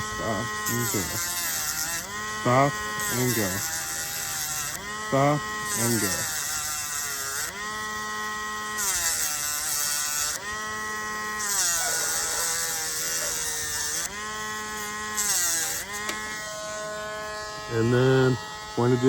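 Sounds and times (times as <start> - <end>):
gritty grinding hiss: 0.0 - 19.0
rotary tool whining: 0.0 - 19.0.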